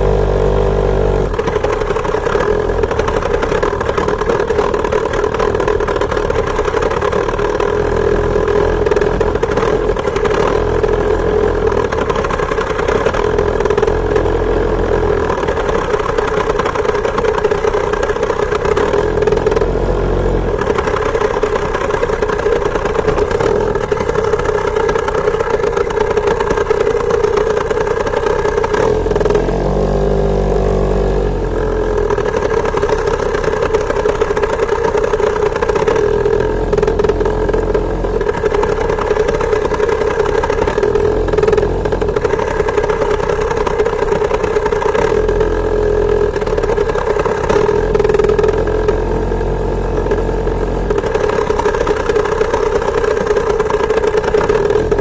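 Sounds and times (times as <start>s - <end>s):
two-stroke engine running fast: 0.0s - 55.0s.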